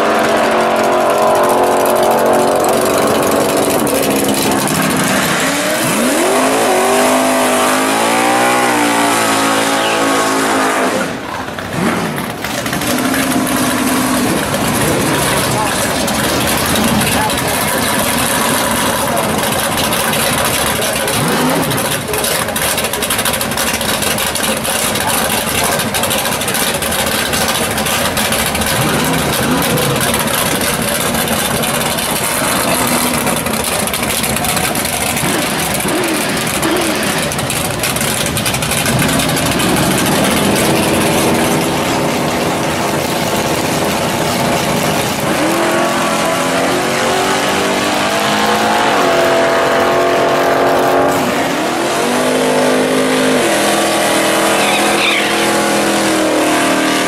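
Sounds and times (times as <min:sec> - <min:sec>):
car engine revving: 0:00.0 - 0:57.0
drag race car engines roaring: 0:00.0 - 0:57.0.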